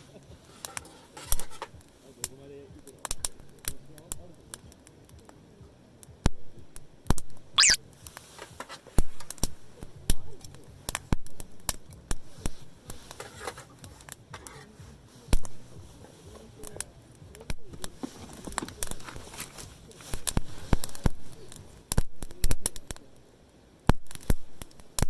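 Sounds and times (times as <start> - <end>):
campfire crackling and popping: 0.1 - 25.0.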